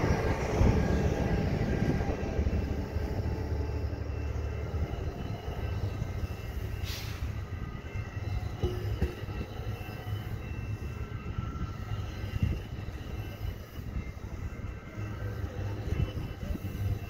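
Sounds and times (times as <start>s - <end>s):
train clunks: 0.0s - 17.0s
train wheels rumbling on rail: 0.0s - 17.0s.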